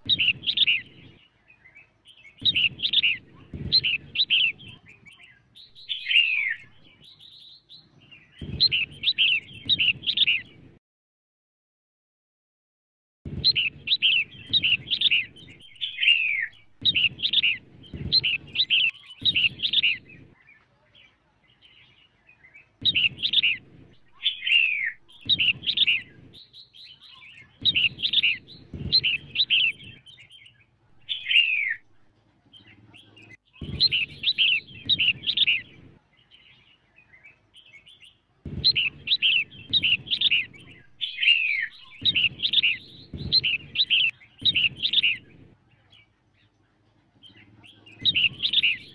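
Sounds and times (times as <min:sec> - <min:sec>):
bird chirping: 0:00.0 - 0:10.8, 0:13.3 - 0:48.9.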